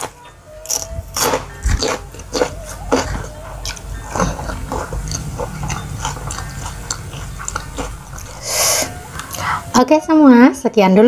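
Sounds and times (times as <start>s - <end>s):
chewing rice: 0.0s - 9.8s.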